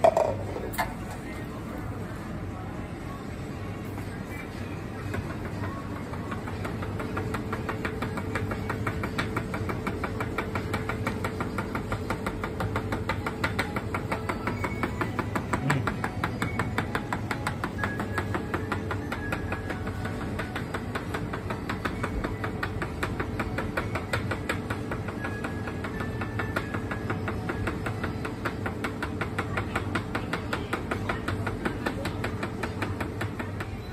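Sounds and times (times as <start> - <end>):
drink machines humming: 0.0 - 33.9.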